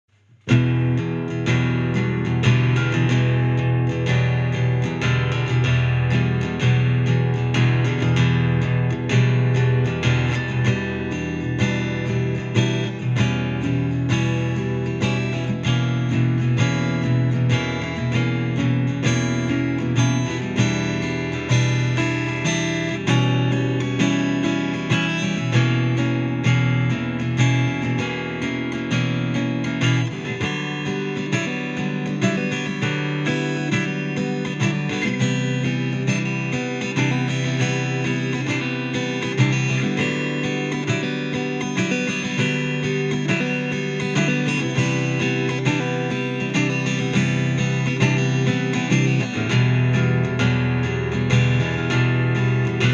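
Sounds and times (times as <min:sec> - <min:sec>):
acoustic guitar instrumental: 0:00.1 - 0:52.9.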